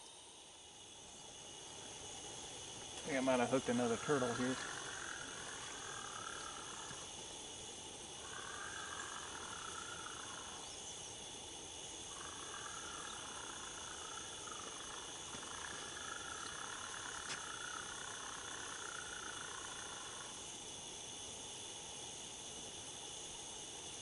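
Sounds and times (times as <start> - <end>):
frog chorus: 0.0 - 21.7
high-pitched insect drone: 0.0 - 24.0.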